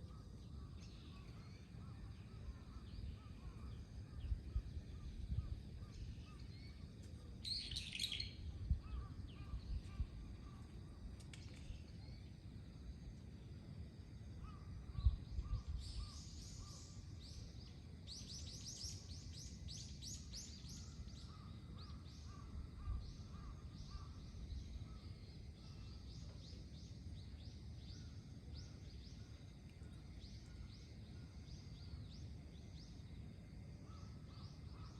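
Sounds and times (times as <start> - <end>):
low rumbling background noise: 0.0 - 34.9.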